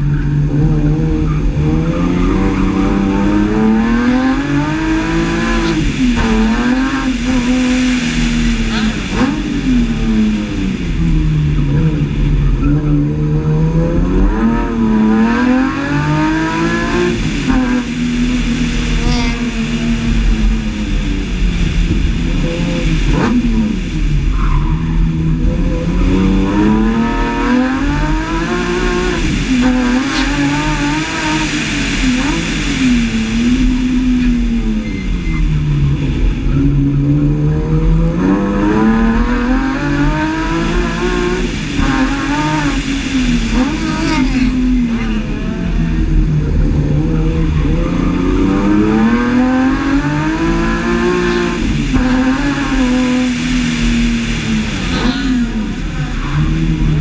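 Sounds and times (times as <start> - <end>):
car engine revving: 0.0 - 34.8, 35.7 - 57.0.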